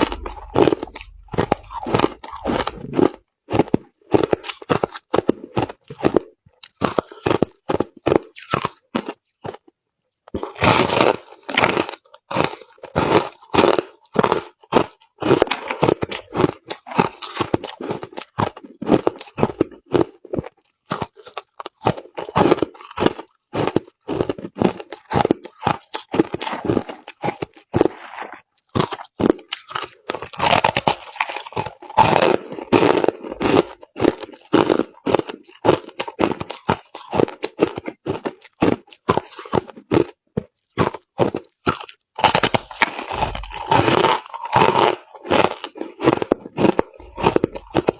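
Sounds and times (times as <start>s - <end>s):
crushed ice being chewed: 0.0s - 47.9s.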